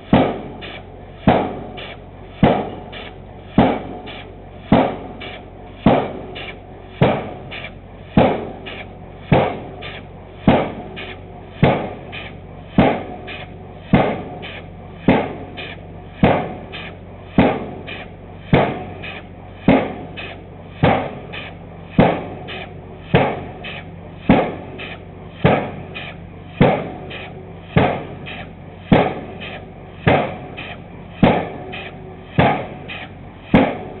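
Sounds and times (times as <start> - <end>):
low machinery hum: 0.0 - 34.0
pile hammer clanging: 0.1 - 34.0.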